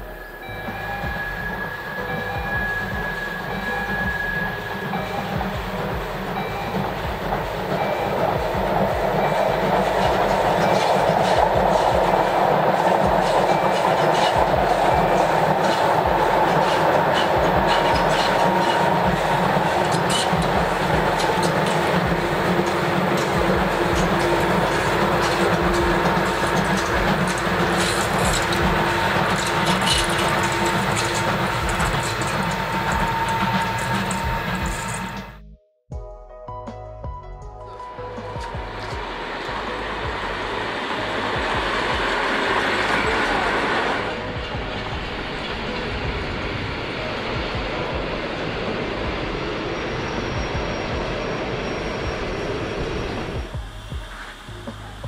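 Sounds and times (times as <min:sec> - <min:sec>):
steam train running past: 0:00.0 - 0:35.4, 0:37.8 - 0:55.0.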